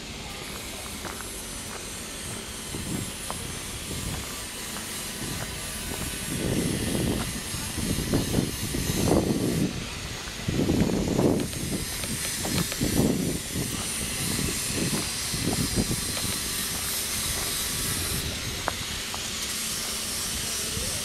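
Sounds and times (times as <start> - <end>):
wind buffeting microphone: 2.2 - 21.0.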